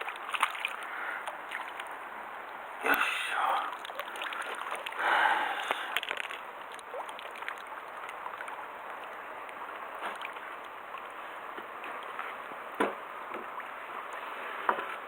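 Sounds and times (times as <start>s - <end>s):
water lapping against boat: 0.0s - 15.0s.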